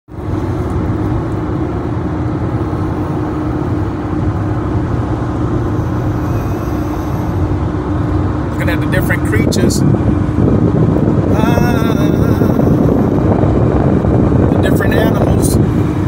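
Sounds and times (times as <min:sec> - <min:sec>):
car cabin road noise: 0:00.1 - 0:16.0.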